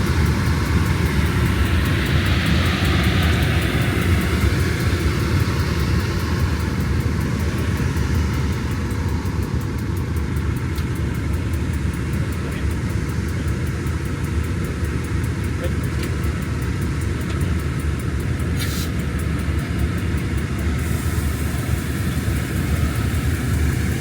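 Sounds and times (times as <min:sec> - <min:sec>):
diesel train rumbling: 0:00.0 - 0:24.0.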